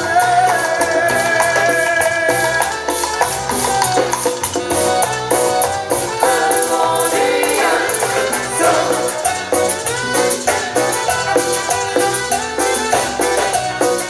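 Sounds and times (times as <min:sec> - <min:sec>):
orchestra playing latin dance music: 0:00.0 - 0:14.0.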